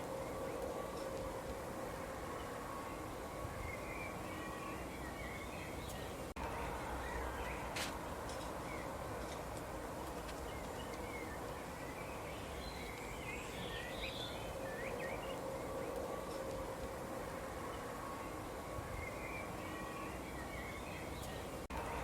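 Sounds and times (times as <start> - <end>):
small birds chirping: 0.0 - 17.0, 17.6 - 22.0
steady background hiss: 0.0 - 22.0.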